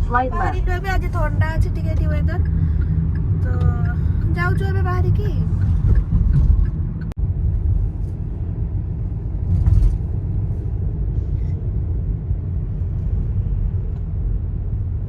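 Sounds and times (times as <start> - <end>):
car driving road noise: 0.0 - 15.0.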